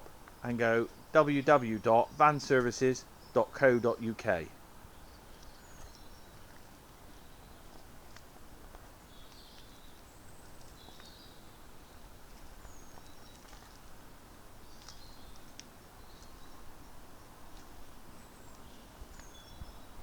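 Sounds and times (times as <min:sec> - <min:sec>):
faint birds chirping: 0:00.0 - 0:20.0
low rumble and hiss: 0:00.0 - 0:20.0.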